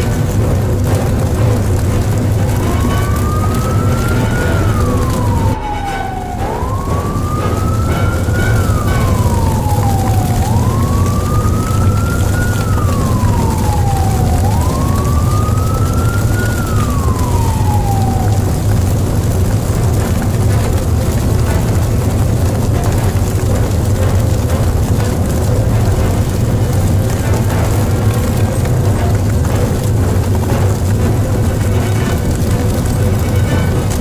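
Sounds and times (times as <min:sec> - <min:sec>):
steady low rumble: 0:00.0 - 0:34.0
siren wailing: 0:00.1 - 0:34.0.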